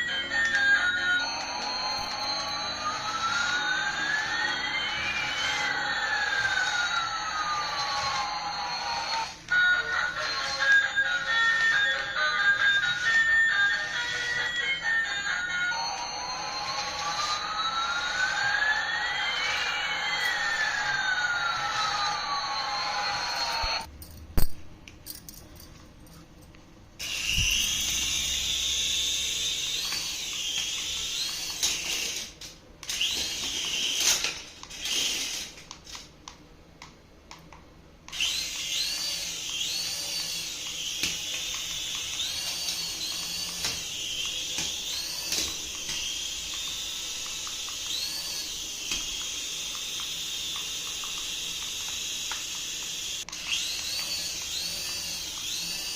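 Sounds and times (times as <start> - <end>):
toy electric motor whining: 0.0 - 23.9, 27.0 - 36.1, 38.1 - 55.9.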